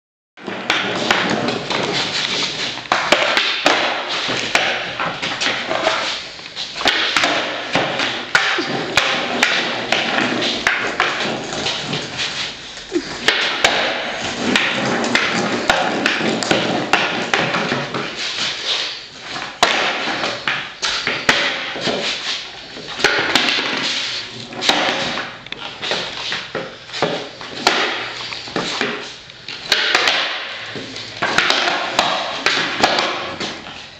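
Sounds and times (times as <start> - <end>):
skateboard clacks and thuds: 0.4 - 6.0, 6.8 - 12.2, 13.2 - 18.6, 19.3 - 29.1, 29.7 - 33.9
skateboard wheels rolling on concrete: 0.4 - 33.9.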